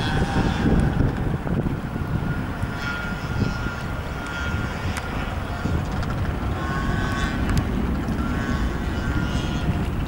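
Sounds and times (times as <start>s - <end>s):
jet engines rumbling: 0.0s - 10.0s
wind buffeting microphone: 0.0s - 10.0s.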